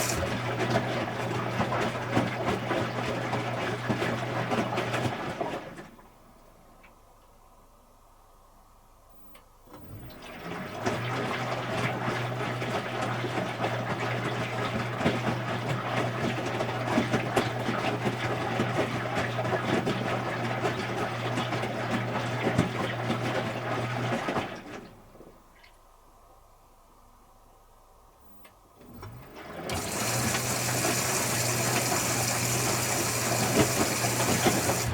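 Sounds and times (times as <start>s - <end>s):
water rushing in washing machine: 0.0s - 6.3s, 9.7s - 25.4s, 28.8s - 34.9s
washing machine low hum: 0.0s - 7.2s, 9.5s - 34.9s.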